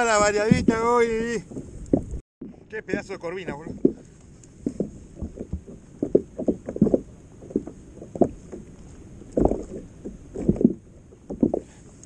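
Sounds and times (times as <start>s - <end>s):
small waves slapping a kayak hull: 0.0s - 12.0s.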